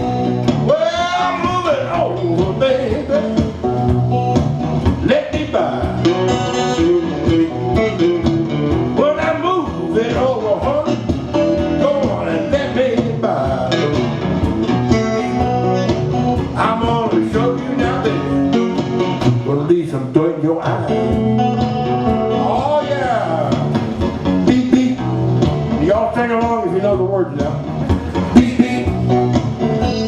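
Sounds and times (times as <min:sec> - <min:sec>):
person singing: 0:00.0 - 0:03.6, 0:05.0 - 0:14.1, 0:16.5 - 0:23.8, 0:24.4 - 0:25.1, 0:25.8 - 0:30.0
steady drum beat: 0:00.0 - 0:19.7, 0:20.6 - 0:30.0
bass: 0:00.0 - 0:30.0
electric guitar: 0:00.0 - 0:30.0.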